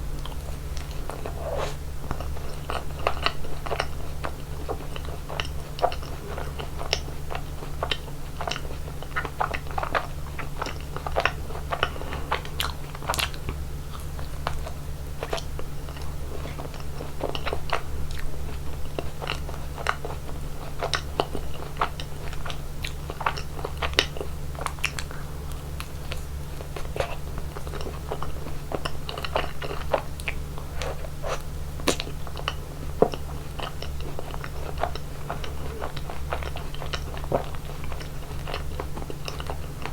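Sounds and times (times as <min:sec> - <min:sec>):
person chewing crunchy ice cream: 0:00.0 - 0:39.9
steady low hum: 0:00.0 - 0:39.9.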